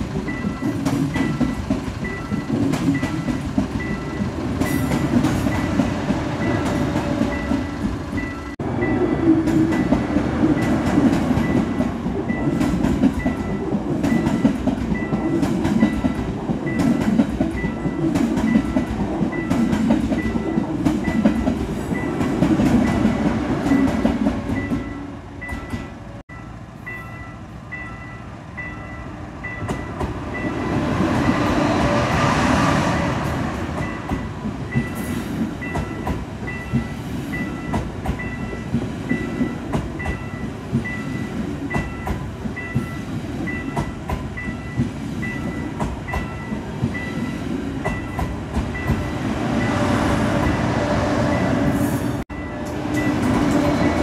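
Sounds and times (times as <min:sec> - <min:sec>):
level crossing warning bell: 0:00.0 - 0:31.8, 0:33.0 - 0:54.0
train approaching: 0:00.0 - 0:54.0
train wheels rumbling on rails: 0:00.0 - 0:54.0.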